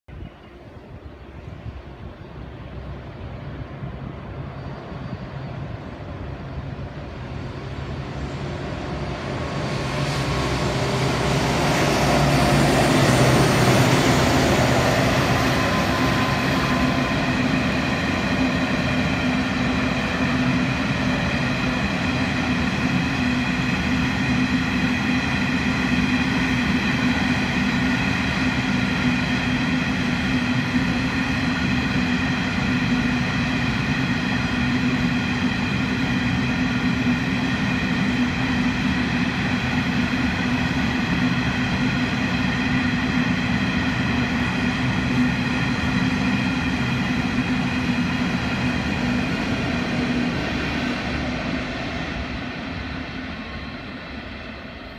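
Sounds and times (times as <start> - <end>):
diesel locomotive drone: 0.1 - 54.9.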